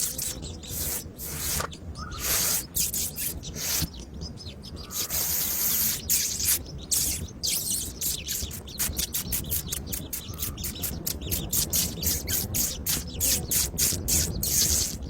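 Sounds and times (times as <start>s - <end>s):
short bird chirps: 0.0s - 4.0s, 4.8s - 15.0s
birds rustling and chattering: 0.0s - 15.0s.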